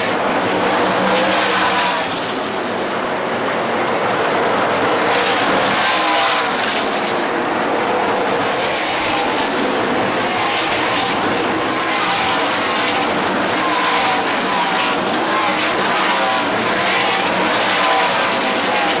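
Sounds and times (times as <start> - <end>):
race truck engines passing: 0.0 - 19.0.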